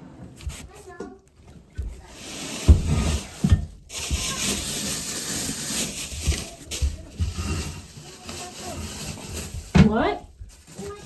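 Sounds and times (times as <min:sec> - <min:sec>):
toilet base scraping and grinding: 0:00.0 - 0:00.7, 0:01.8 - 0:11.0.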